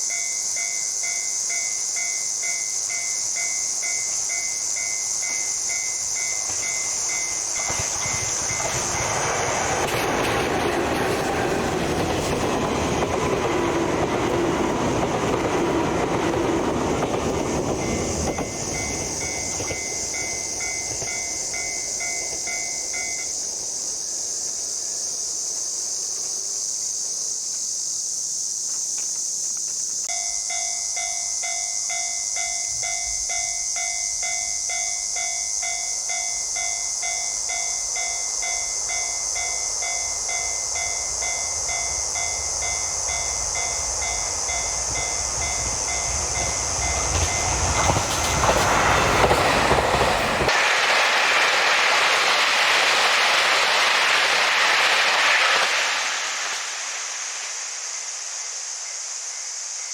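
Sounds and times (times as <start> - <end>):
train rumble and wheel clatter: 0.0 - 27.6, 30.9 - 59.9.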